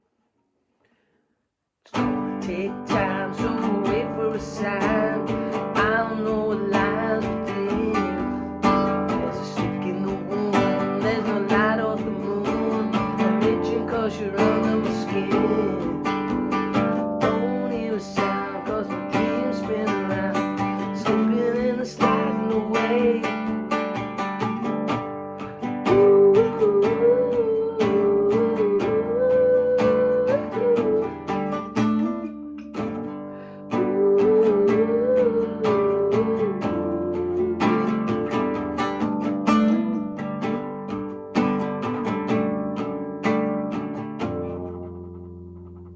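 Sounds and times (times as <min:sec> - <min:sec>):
guitar music: 0:01.9 - 0:45.9.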